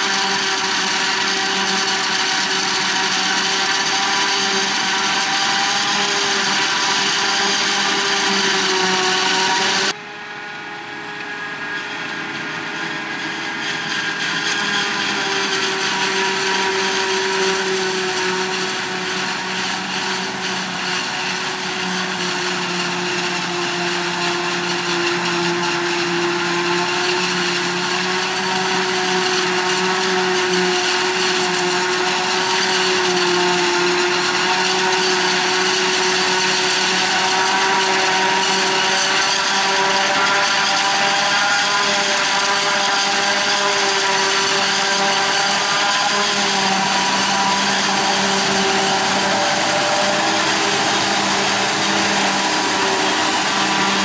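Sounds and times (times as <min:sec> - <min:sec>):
forage harvester high-pitched whine: 0:00.0 - 0:54.0.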